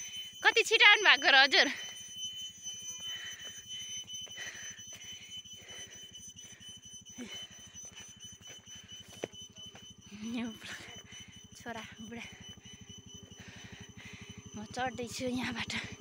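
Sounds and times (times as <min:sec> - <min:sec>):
motor scooter engine hum: 0:00.0 - 0:16.0
thin high whine: 0:00.0 - 0:16.0.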